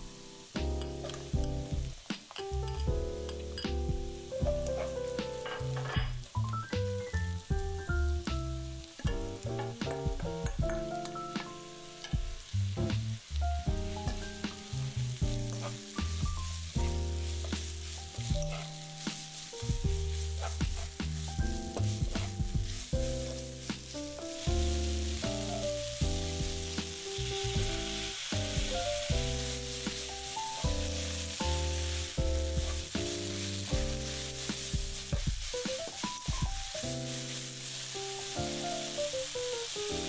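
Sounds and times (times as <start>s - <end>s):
background music: 0.0s - 40.0s
vegetables sizzling in oil: 0.0s - 40.0s.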